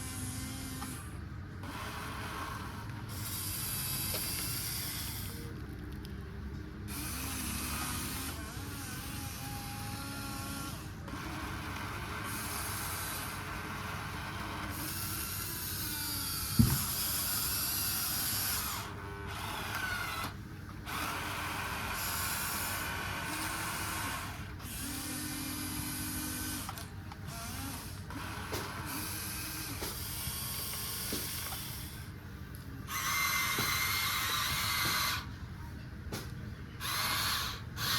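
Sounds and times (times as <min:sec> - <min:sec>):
small electric motors whirring: 0:00.0 - 0:37.9.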